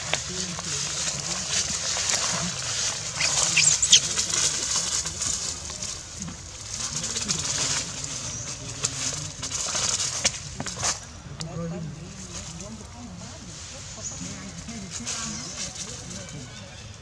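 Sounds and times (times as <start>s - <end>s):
dry leaves rustling and crackling: 0.0s - 17.0s.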